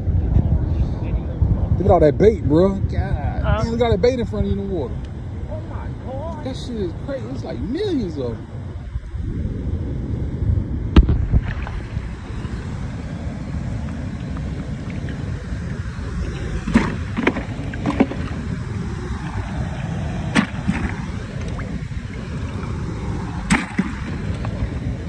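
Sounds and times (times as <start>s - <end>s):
low rushing noise: 0.0s - 25.0s.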